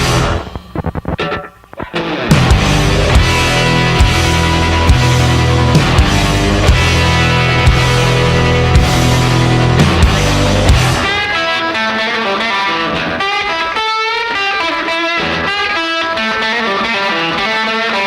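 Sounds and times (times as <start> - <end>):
distorted electric guitar notes: 0.0 - 18.0.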